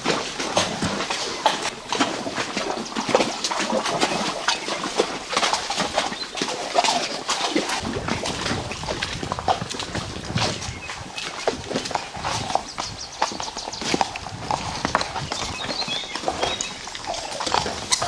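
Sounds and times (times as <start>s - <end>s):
horse hooves clopping: 0.0s - 18.0s.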